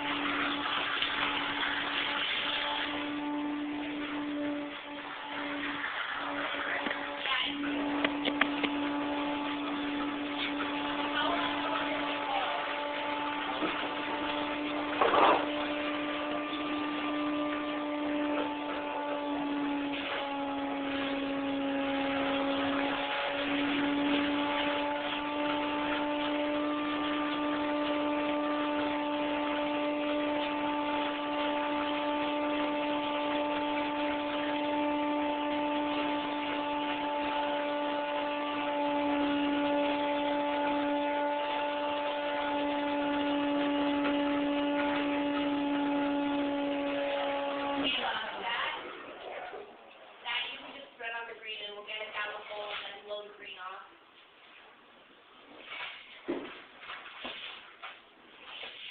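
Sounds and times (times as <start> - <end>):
motor-driven machine humming: 0.0 - 53.7.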